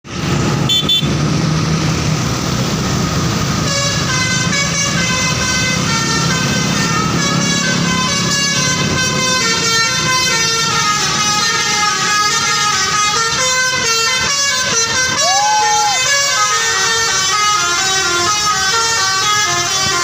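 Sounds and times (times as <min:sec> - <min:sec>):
bus engine rumble: 0:00.0 - 0:20.0
multi-tone bus horn melody: 0:00.4 - 0:01.3, 0:03.0 - 0:20.0.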